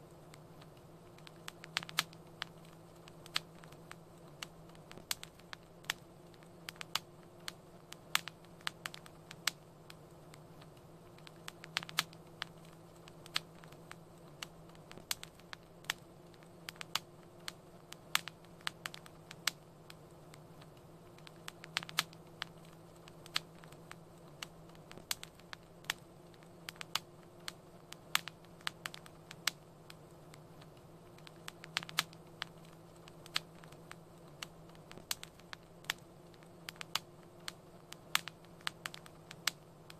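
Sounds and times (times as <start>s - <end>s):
steady low hum: 0.0s - 39.9s
wood fire crackling: 0.0s - 39.9s.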